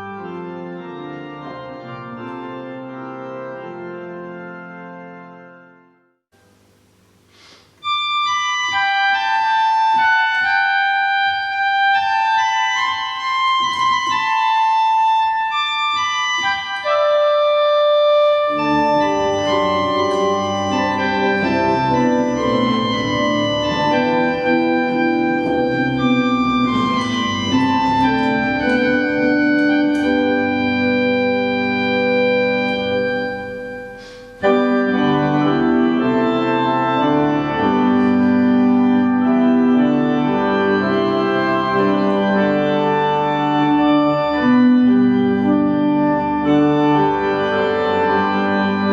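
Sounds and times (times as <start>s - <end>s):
organ playing a hymn: 0.0s - 6.0s, 7.8s - 48.9s.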